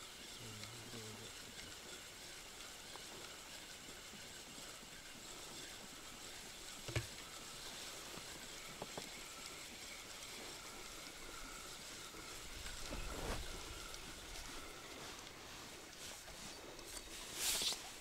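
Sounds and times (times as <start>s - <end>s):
water lapping around a boat: 0.0s - 18.0s.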